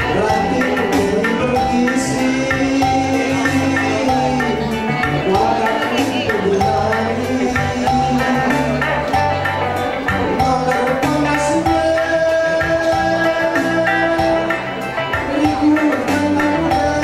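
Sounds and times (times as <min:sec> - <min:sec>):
backing music with bass and percussion: 0:00.0 - 0:17.0
man singing through microphone: 0:00.0 - 0:17.0.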